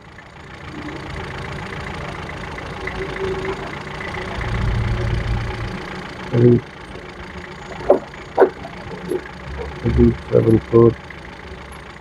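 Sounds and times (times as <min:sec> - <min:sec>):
car engine idling: 0:00.0 - 0:12.0
deeper engine rumble: 0:00.0 - 0:12.0.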